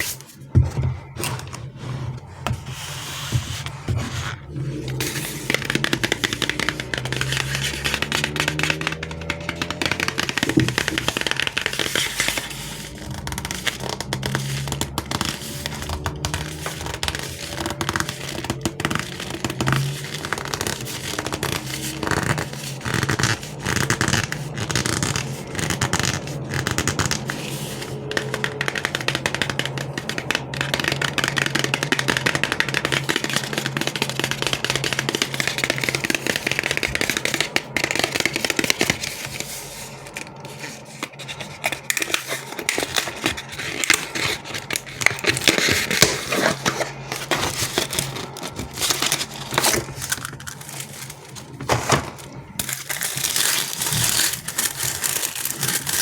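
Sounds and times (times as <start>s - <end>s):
candy packaging crinkling: 0.0s - 56.0s.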